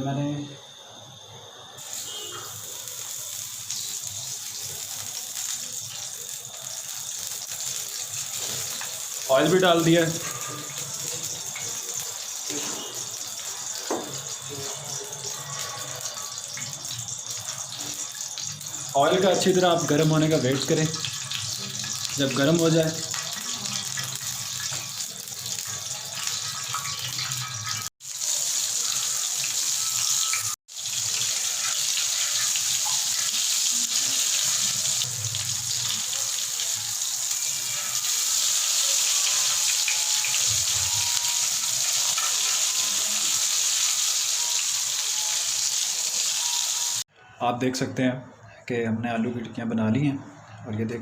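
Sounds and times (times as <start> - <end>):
patties sizzling in hot oil: 1.8 - 47.1.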